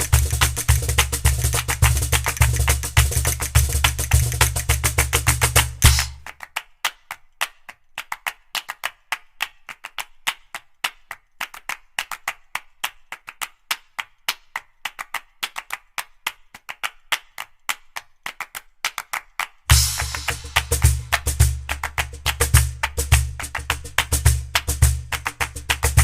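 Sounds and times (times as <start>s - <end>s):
percussive music with clicks and claps: 0.0s - 16.1s, 16.7s - 26.0s.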